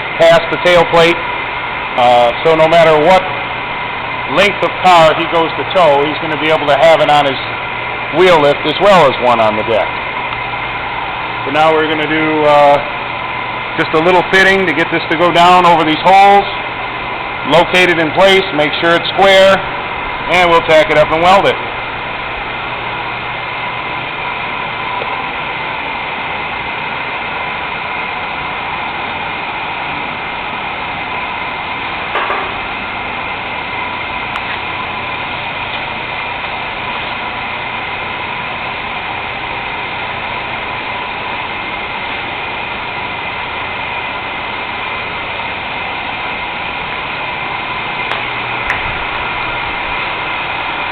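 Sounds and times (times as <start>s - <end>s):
mechanical running hum: 0.0s - 50.9s.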